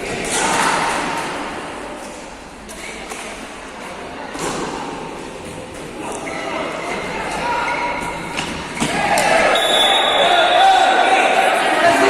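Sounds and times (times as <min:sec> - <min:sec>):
echoing crowd noise: 0:00.0 - 0:12.0.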